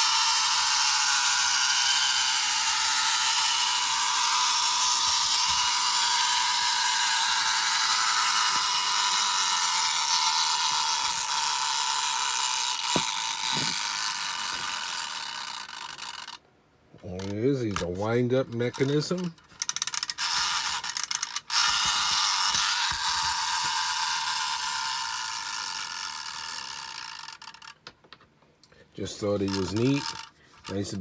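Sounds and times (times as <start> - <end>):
clockwork mechanism whirring: 0.0 - 16.4, 17.2 - 27.8, 29.1 - 31.0.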